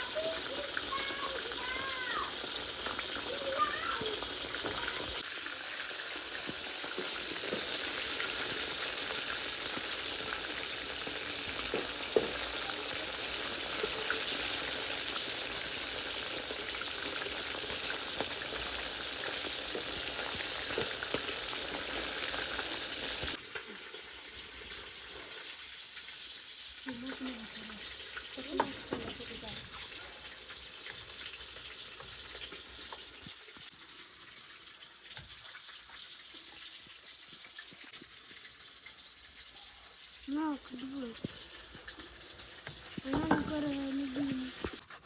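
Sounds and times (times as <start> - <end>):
food deep-frying in oil: 0.0 - 45.0.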